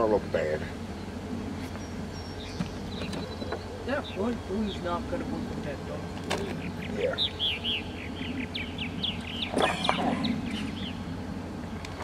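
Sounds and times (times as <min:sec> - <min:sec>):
low steady rumble: 0:00.0 - 0:12.0
songbird chirping: 0:00.0 - 0:12.0.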